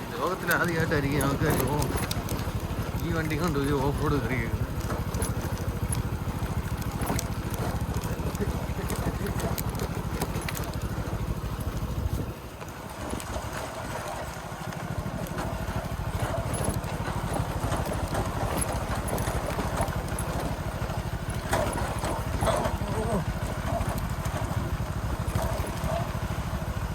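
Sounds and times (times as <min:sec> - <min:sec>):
motorcycle engine under load: 0:00.0 - 0:26.9.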